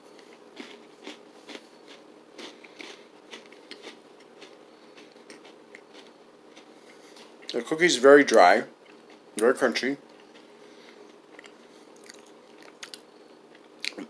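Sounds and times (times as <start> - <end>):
chewing crunchy granola: 0.1 - 9.5, 10.1 - 14.0.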